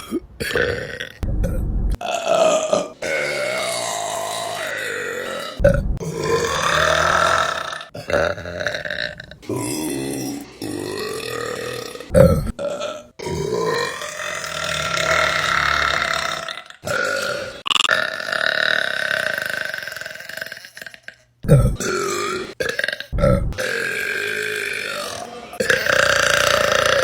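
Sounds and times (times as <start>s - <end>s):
women burping: 0.0s - 27.0s.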